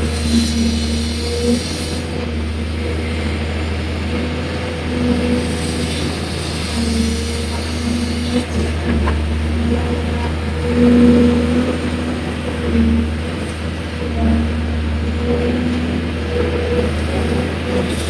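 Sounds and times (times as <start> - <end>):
excavator diesel engine running: 0.0 - 18.0
hydraulic whine: 0.0 - 18.0.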